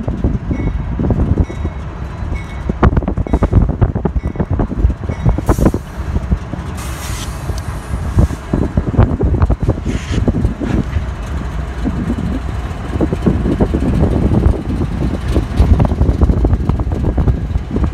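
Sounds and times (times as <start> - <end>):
diesel locomotives rumbling past: 0.0 - 17.9
wind buffeting microphone: 0.0 - 17.9.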